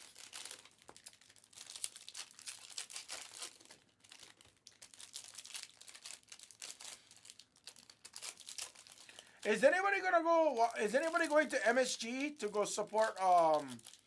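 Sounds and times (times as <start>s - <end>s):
plastic wrapping crinkling and tearing: 0.0s - 14.0s.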